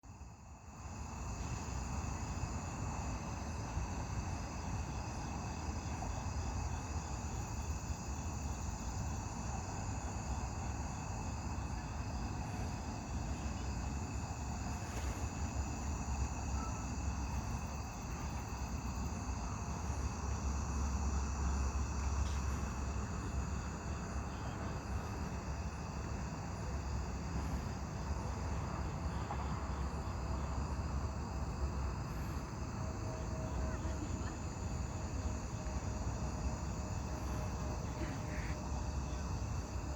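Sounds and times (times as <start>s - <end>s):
crickets and insects trilling: 0.1s - 39.9s.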